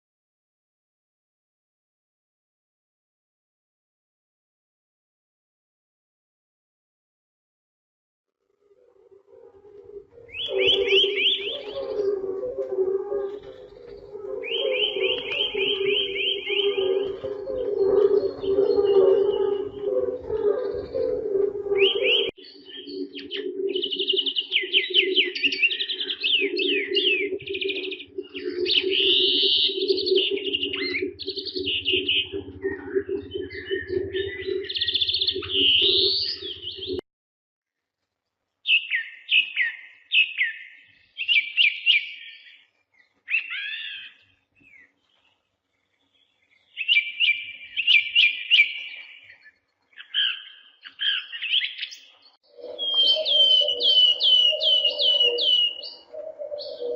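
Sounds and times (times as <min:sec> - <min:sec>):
birds chirping and trilling: 0:08.6 - 0:37.0, 0:38.6 - 0:56.9.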